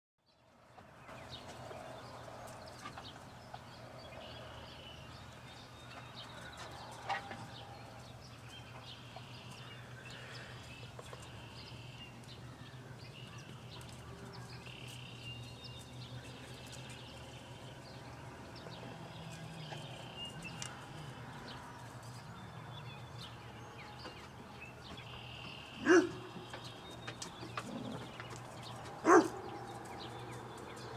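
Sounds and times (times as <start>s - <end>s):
birds calling: 0.7s - 30.9s.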